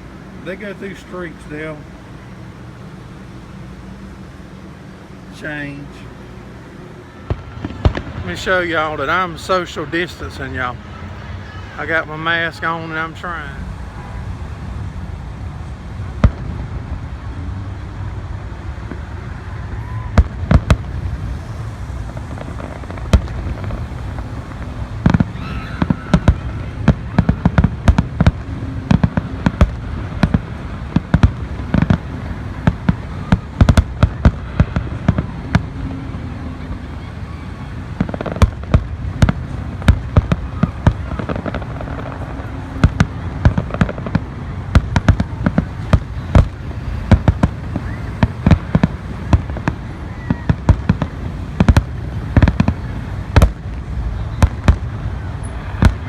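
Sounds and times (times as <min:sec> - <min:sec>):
steady low rumble: 0:00.0 - 0:56.0
fireworks bangs and crackles: 0:04.9 - 0:56.0.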